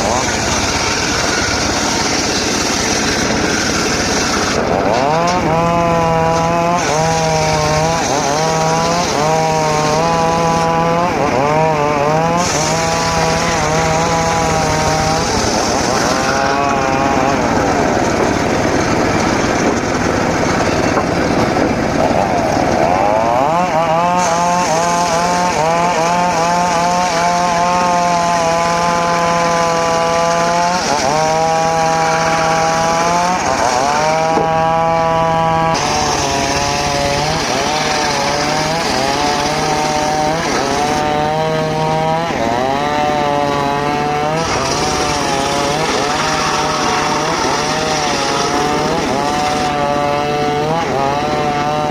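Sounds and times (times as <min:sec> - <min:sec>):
circular saw cutting wood: 0:00.0 - 0:51.9.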